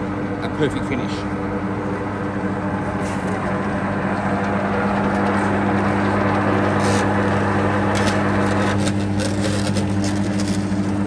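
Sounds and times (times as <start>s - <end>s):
sheet-metal machine humming: 0.0s - 11.0s.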